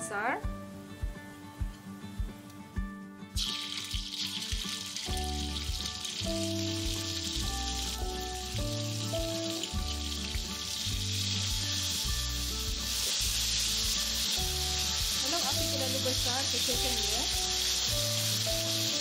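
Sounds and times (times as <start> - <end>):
soft background music: 0.0 - 19.0
paste sizzling in hot oil: 3.4 - 19.0.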